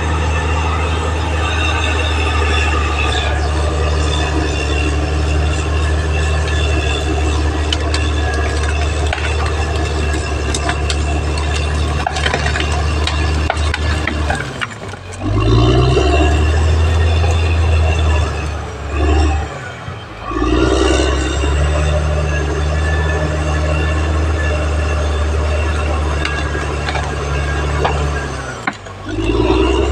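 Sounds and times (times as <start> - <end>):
metal track clatter: 0.0 - 19.8, 22.3 - 29.9
bulldozer diesel engine under load: 0.0 - 29.9.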